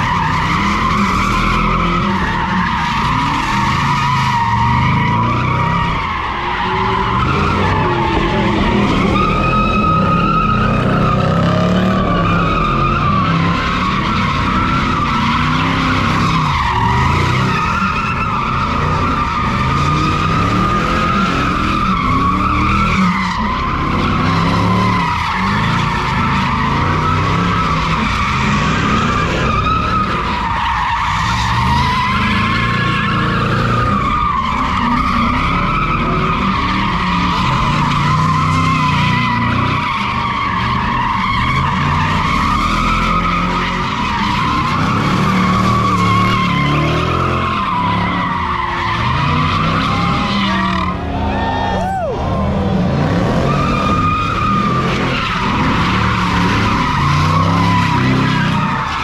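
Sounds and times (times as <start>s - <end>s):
car engine revving: 0.0s - 59.0s
car tyres squealing: 0.0s - 59.0s.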